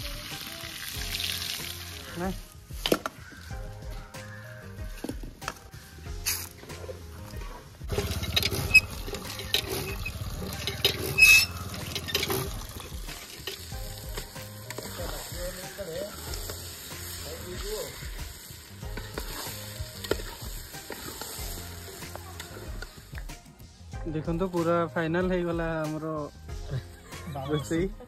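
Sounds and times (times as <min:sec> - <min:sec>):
fish sizzling in hot oil: 0:00.0 - 0:23.6.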